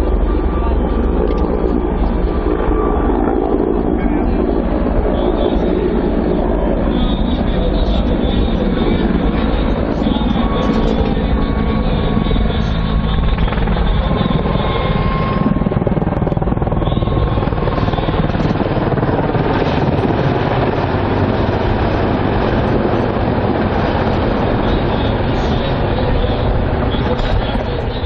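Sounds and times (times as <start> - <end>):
helicopter rotor and turbine: 0.0 - 28.0
thin whine: 0.0 - 28.0.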